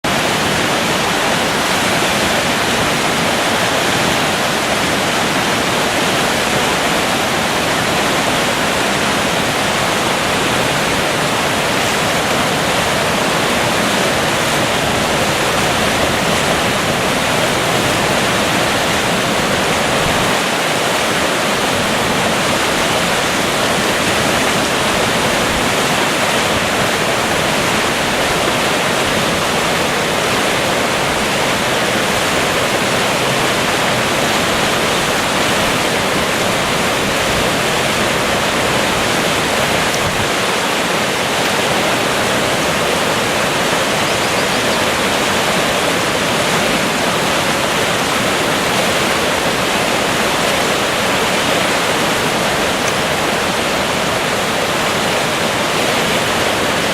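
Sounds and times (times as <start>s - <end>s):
river water rushing over rocks: 0.0s - 56.9s.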